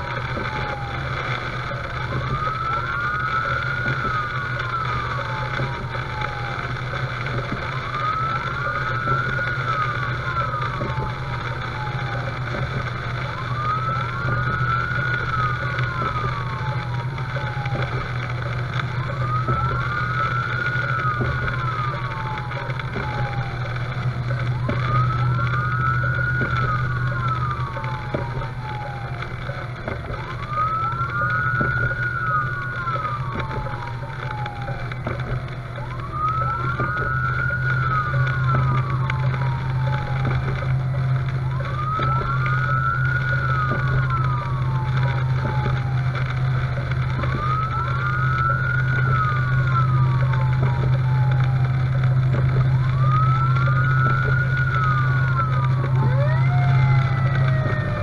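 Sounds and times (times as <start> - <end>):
siren wailing: 0.0 - 58.0
truck engine drone: 0.0 - 58.0.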